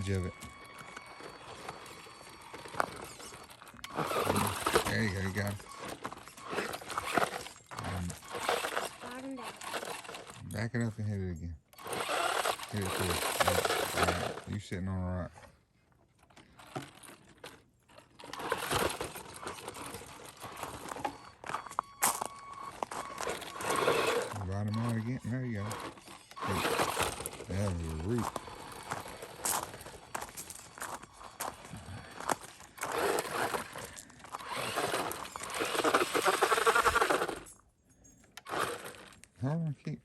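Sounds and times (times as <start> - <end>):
tyres crunching over stone: 0.0 - 9.0, 11.8 - 14.6, 16.4 - 37.5, 38.4 - 39.3
electric drivetrain whirring: 0.0 - 15.5, 16.2 - 37.6, 38.3 - 39.4.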